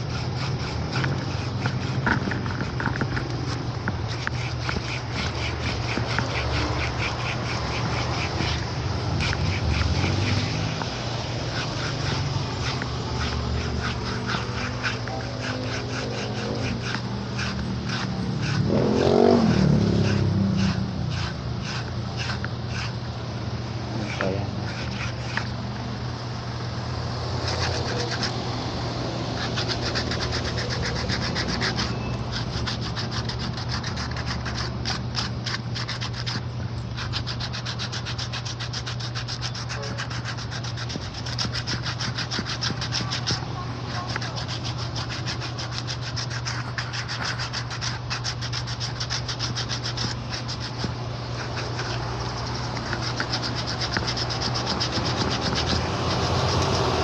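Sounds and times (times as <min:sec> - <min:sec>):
shoe sole grinding on wheel: 0:00.0 - 0:26.1, 0:27.0 - 0:57.0.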